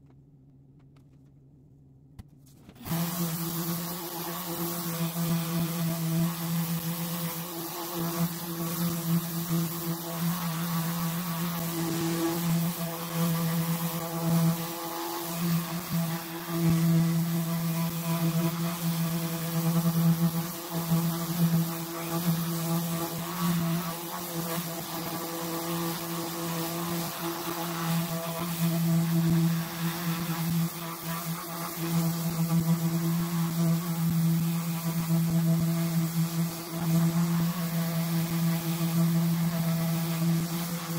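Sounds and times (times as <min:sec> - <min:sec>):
abrasive hissing on plastic: 0:02.8 - 0:40.9
orbital sander running: 0:02.8 - 0:40.9.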